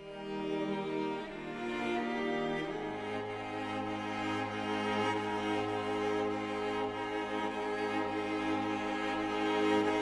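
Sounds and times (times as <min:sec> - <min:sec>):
bowed strings playing chords: 0:00.0 - 0:10.0.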